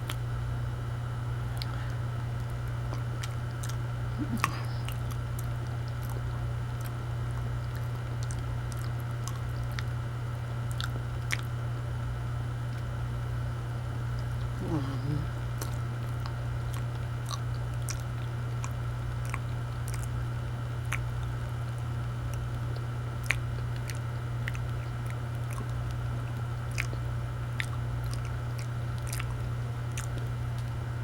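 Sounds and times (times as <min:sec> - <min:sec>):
steady low hum: 0:00.0 - 0:31.0
wet mouth clicks: 0:01.5 - 0:09.9, 0:10.6 - 0:11.6, 0:14.1 - 0:20.2, 0:20.8 - 0:30.8
person chewing: 0:01.5 - 0:10.0, 0:10.6 - 0:11.5, 0:14.1 - 0:30.8.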